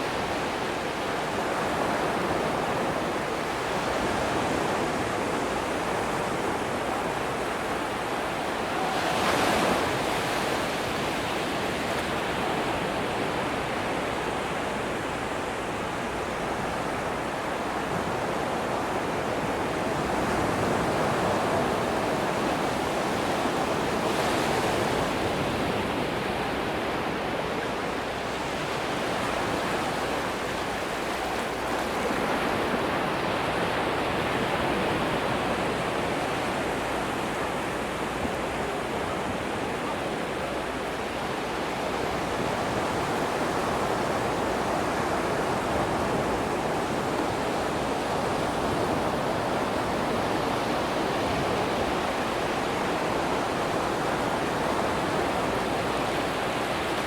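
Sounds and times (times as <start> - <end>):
surf washing onto beach: 0.0 - 57.0.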